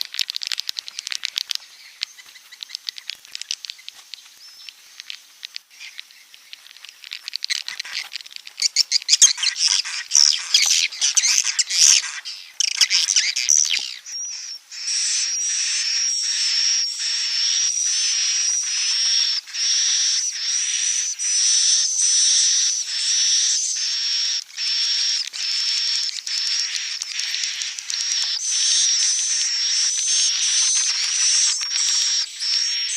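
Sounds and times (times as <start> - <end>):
swiftlets chirping and twittering: 0.0 - 32.9.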